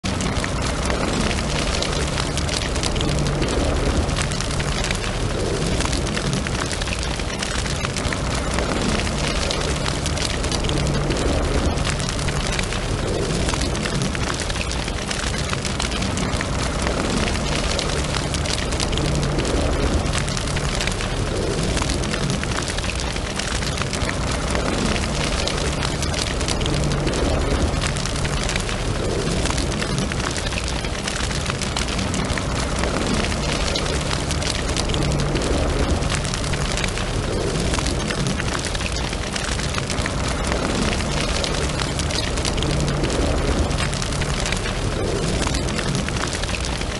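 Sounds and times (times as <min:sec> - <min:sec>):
fire crackling and popping: 0:00.0 - 0:46.9
low rumble: 0:00.0 - 0:46.9.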